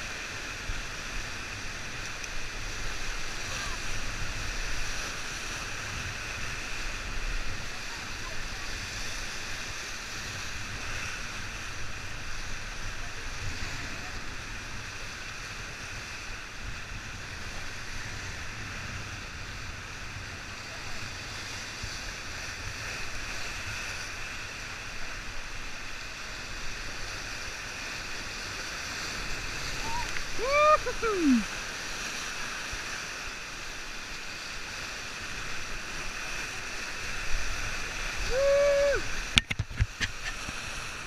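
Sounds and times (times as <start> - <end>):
river rapids rushing: 0.0 - 41.0.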